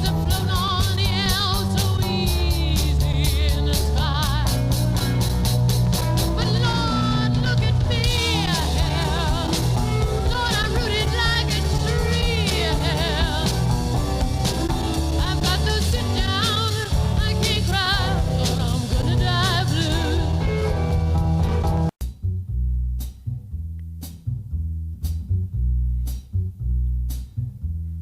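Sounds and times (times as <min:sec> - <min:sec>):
drums: 0:00.0 - 0:27.9
bass guitar: 0:00.0 - 0:28.0.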